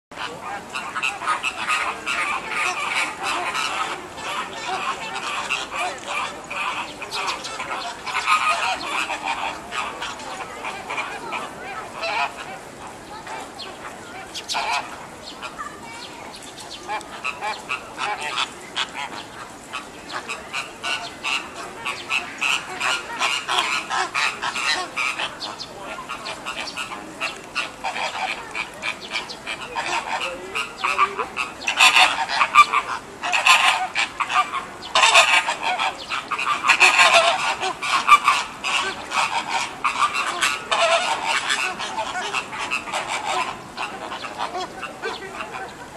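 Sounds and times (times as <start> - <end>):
flamingos honking: 0.1 - 45.9.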